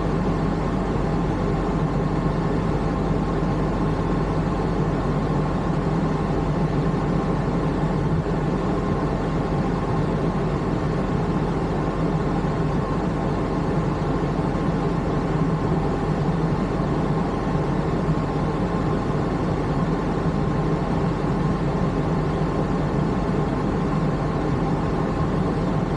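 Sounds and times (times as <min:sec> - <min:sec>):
car engine running steadily: 0:00.0 - 0:25.9.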